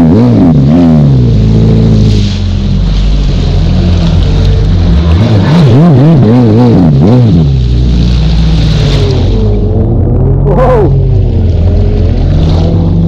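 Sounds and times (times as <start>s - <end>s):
jet ski engine revving: 0.0s - 13.0s
rush of wind and water: 0.0s - 13.0s.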